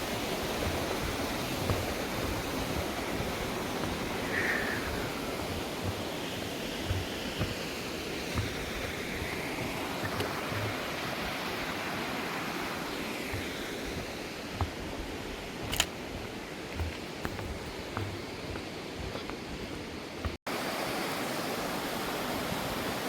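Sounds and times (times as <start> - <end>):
soft low thumps: 0.0 - 11.7, 13.2 - 20.4
stream rushing over rocks: 0.0 - 23.0.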